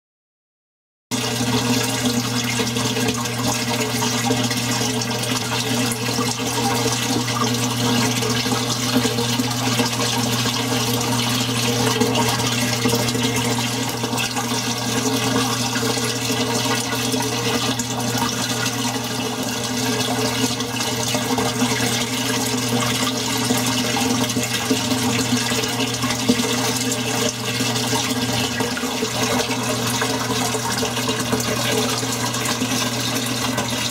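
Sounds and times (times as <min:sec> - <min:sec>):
water rushing in aquarium filter: 0:01.1 - 0:33.9.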